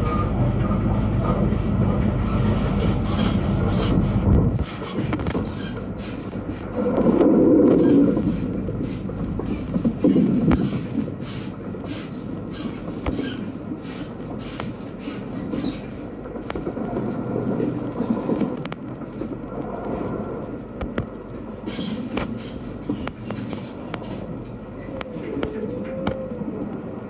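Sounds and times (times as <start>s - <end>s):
train wheels rumbling on rail: 0.0s - 27.0s
sharp rail clicks: 2.6s - 26.9s.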